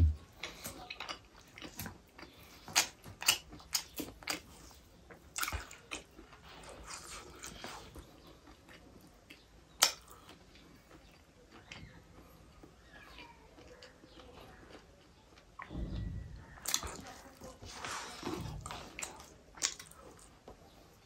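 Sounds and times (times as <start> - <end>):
person chewing: 0.0 - 15.7, 16.6 - 20.6.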